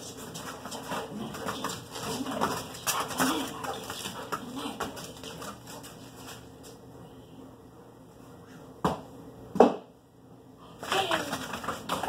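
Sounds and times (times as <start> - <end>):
faint room noise: 0.0 - 12.0.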